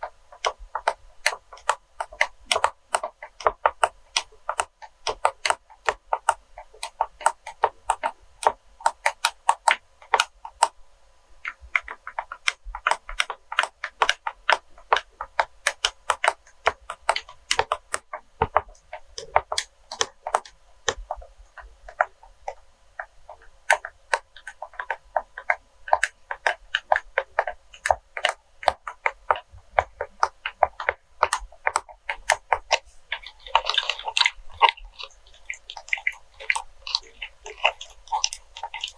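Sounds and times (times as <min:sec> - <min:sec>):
tapping on wax melts: 0:00.0 - 0:10.8, 0:11.4 - 0:38.9.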